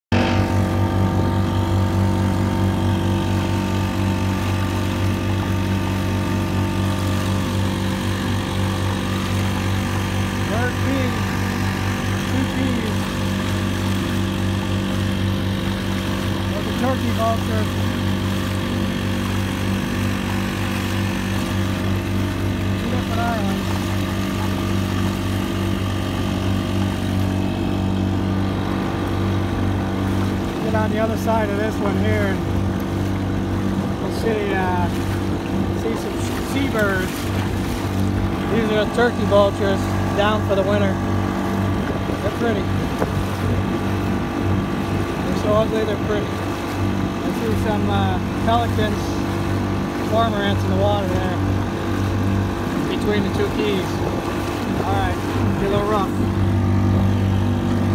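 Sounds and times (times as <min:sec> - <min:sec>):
small boat engine running: 0:00.0 - 0:57.9.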